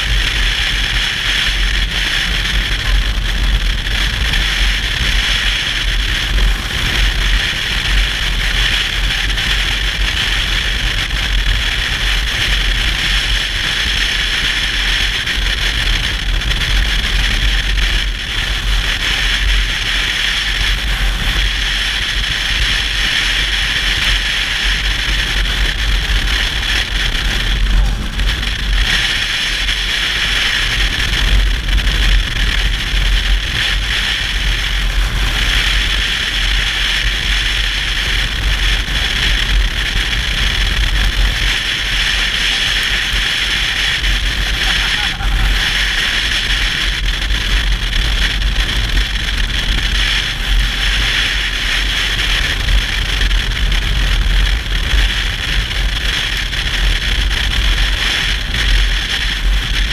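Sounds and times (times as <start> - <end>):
motorcycle engine and road rumble: 0.0 - 59.9
wind rush over microphone: 0.0 - 59.9.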